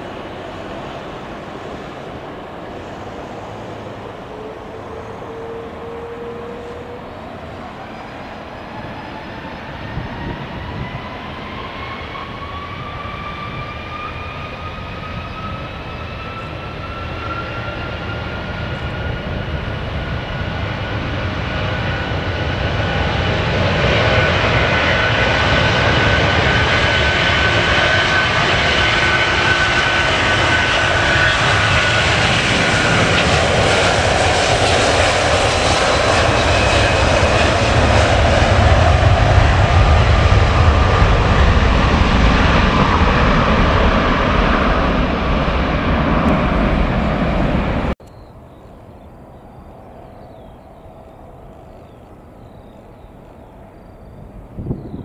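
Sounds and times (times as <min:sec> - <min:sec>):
jet engines spooling up: 0:00.0 - 0:55.0.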